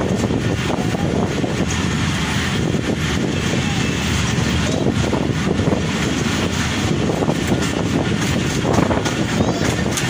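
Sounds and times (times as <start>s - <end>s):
railcar wheels and engine rumbling: 0.0s - 10.0s
wind rushing over microphone: 0.0s - 10.0s.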